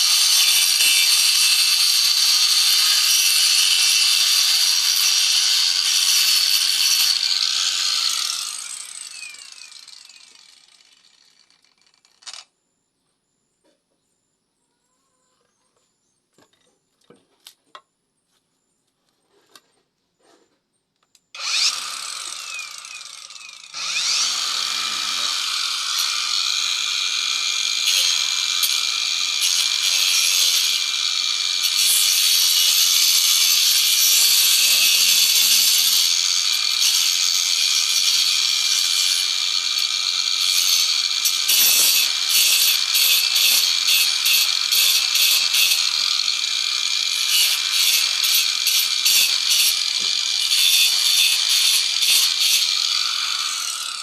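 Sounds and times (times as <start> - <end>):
power tool running on wood: 0.0 - 12.4, 21.4 - 54.0.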